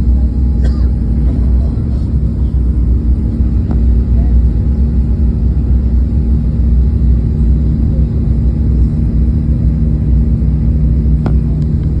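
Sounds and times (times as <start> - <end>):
constant low hum: 0.0 - 12.0
jet engines and airflow rumble: 0.0 - 12.0.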